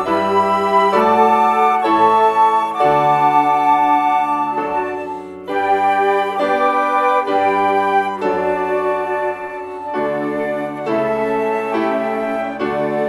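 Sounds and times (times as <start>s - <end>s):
flute ensemble chords: 0.0s - 13.0s.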